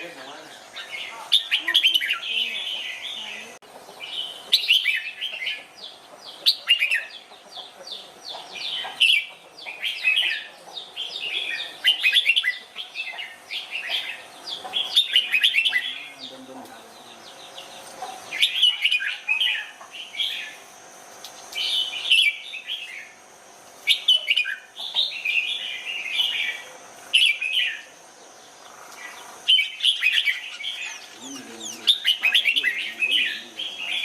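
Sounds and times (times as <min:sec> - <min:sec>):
bird singing chirping phrases: 0:00.0 - 0:20.7, 0:21.3 - 0:23.2, 0:23.8 - 0:34.0.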